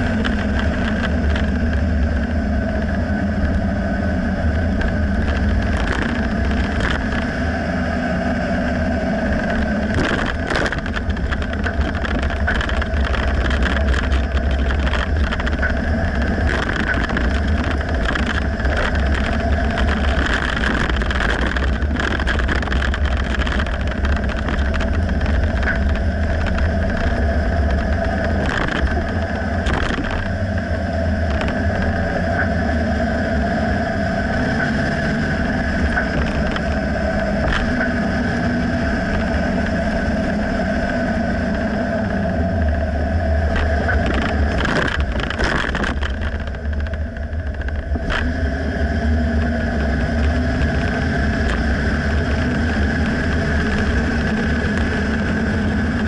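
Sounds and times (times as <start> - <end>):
low rumble of road noise: 0.0 - 56.0.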